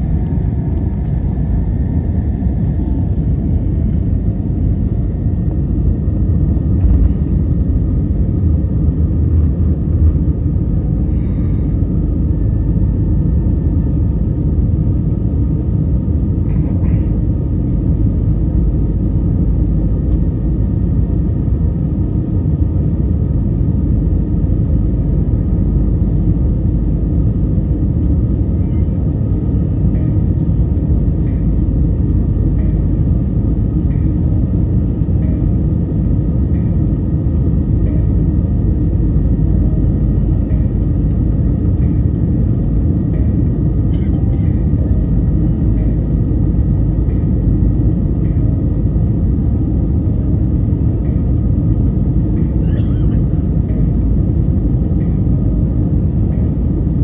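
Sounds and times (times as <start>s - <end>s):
airplane cabin engine roar: 0.0s - 57.0s.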